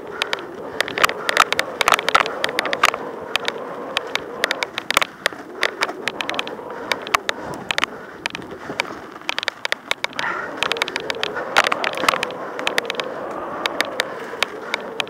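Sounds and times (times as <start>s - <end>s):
bike rattling over bumps: 0.0s - 15.0s
bike tyres rumbling on dirt: 0.0s - 15.0s.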